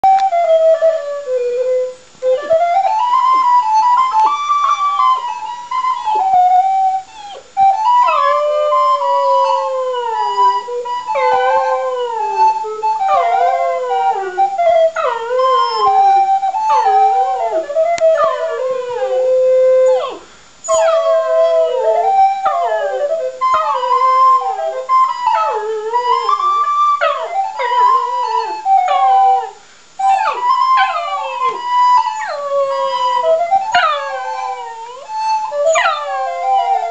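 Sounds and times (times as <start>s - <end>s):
recorder melody: 0.0s - 36.9s
dog howling: 0.6s - 36.9s.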